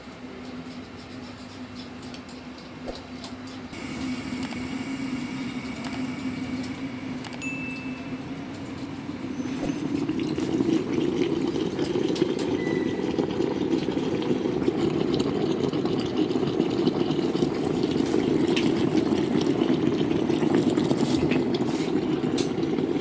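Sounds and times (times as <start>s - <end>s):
water boiling and gurgling: 3.7s - 23.0s.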